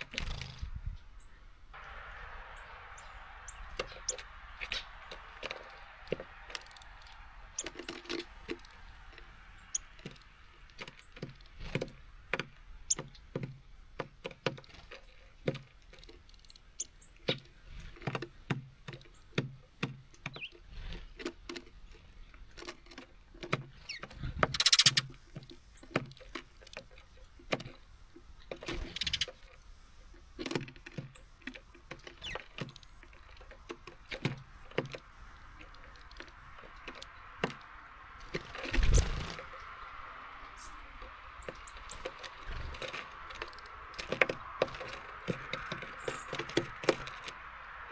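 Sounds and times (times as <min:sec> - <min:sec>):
birds pecking at seed feeder: 0:01.8 - 0:47.9.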